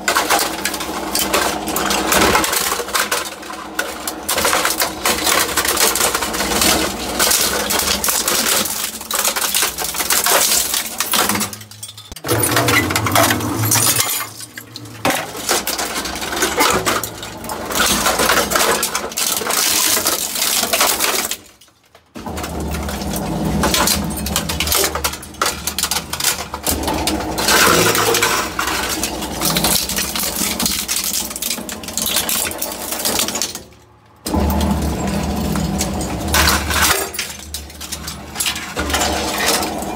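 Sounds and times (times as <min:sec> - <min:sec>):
shredder cracking plastic: 0:00.0 - 0:39.9.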